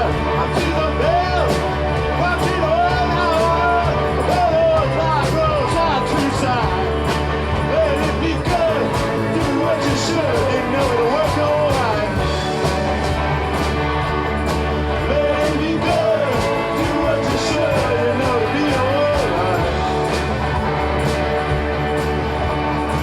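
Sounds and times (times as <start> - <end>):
bass: 0.0 - 23.0
drums: 0.0 - 23.0
electric guitars: 0.0 - 23.0
organ: 0.0 - 23.0.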